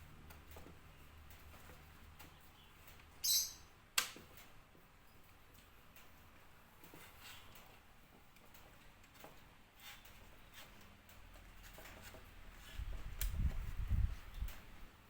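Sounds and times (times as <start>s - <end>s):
cage parts clicking and tapping: 0.0s - 14.8s.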